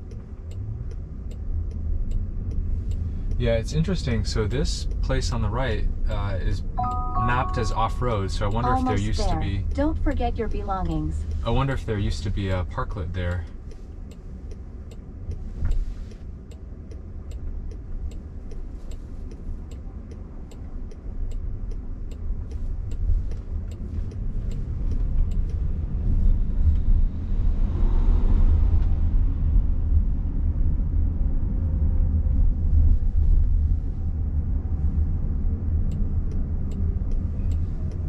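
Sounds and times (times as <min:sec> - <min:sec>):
turn signal ticking: 0:00.0 - 0:27.4, 0:31.3 - 0:38.0
road and tyre rumble: 0:00.0 - 0:38.0.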